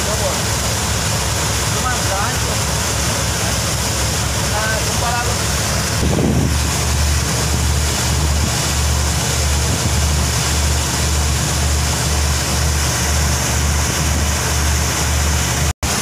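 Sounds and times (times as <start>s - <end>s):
boat engine throbbing: 0.0s - 16.0s
wind and water rushing: 0.0s - 16.0s.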